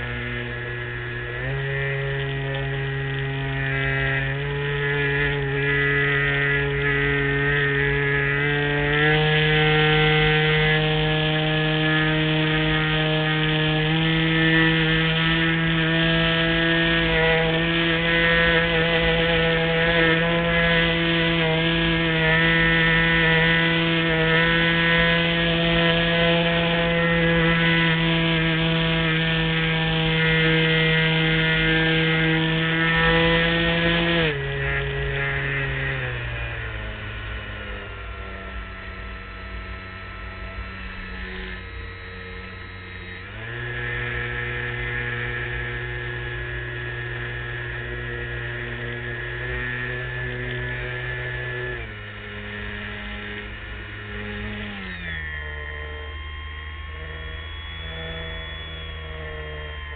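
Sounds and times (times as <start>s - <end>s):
model airplane motor and propeller: 0.0s - 59.9s.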